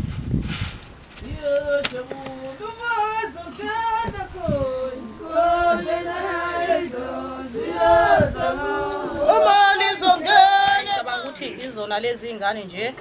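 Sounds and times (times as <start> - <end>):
voices chanting a song: 1.3 - 12.0.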